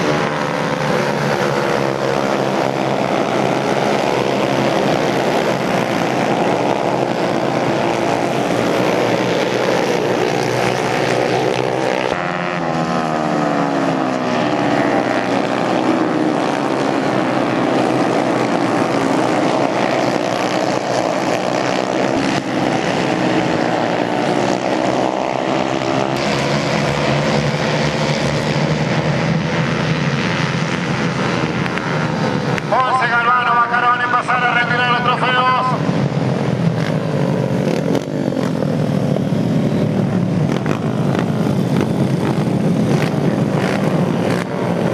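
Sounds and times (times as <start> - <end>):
motorcycle passing close: 0.0 - 44.9
racing motorcycle engines: 0.0 - 44.9.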